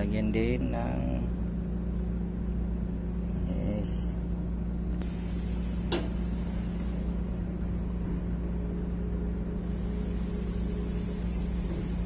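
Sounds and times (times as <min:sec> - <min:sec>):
low machine rumble: 0:00.0 - 0:12.0.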